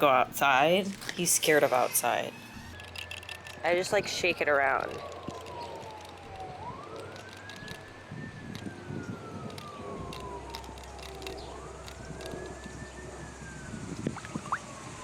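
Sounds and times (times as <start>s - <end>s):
siren wailing: 0.6s - 15.0s.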